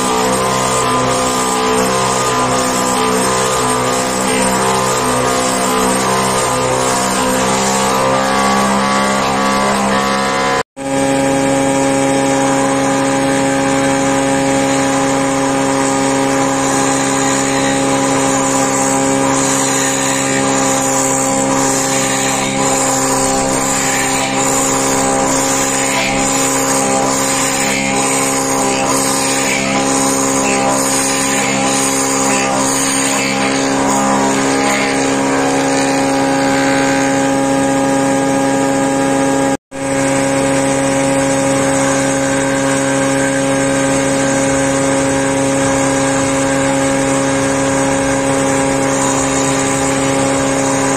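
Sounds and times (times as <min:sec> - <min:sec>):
drill bit rasping wood: 0:00.0 - 0:50.9
machine whine: 0:00.0 - 0:50.9.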